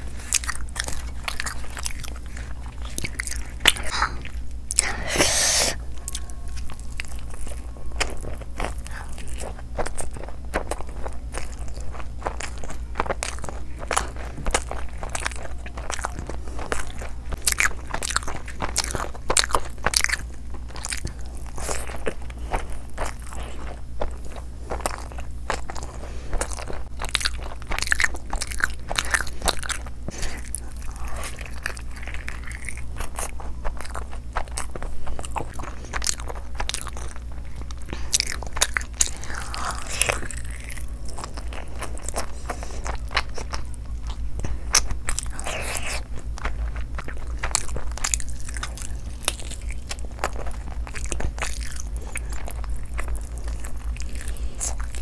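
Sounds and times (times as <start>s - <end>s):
steady low hum: 0.0s - 55.0s
wet chewing and lip smacking: 0.0s - 55.0s.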